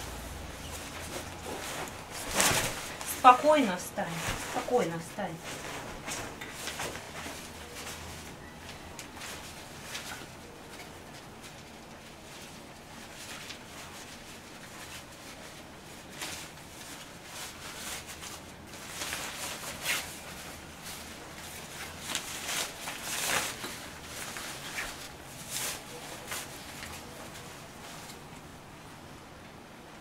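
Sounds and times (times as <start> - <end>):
fabric rustling: 0.0 - 28.3.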